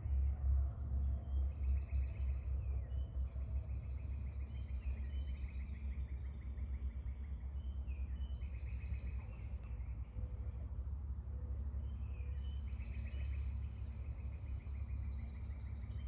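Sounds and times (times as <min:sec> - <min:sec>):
low steady rumble: 0:00.0 - 0:16.0
bird singing whistled notes: 0:01.2 - 0:10.6, 0:11.4 - 0:16.0.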